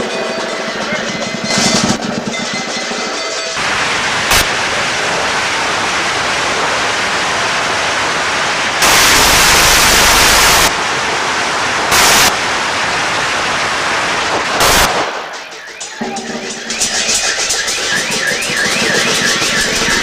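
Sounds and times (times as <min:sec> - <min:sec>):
firecrackers crackling: 0:03.6 - 0:20.0.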